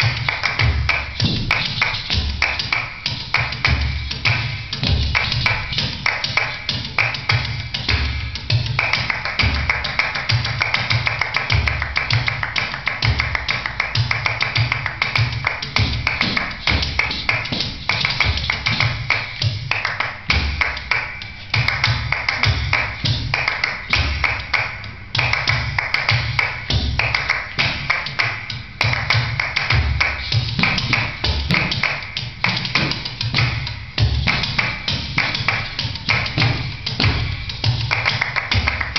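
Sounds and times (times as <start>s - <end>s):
deep drum beats: 0.0s - 19.7s, 25.1s - 38.9s
fast dance percussion: 0.0s - 38.9s.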